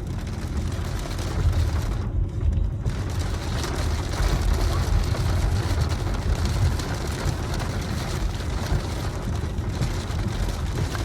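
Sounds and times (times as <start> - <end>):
car road and wind rumble: 0.0 - 11.0.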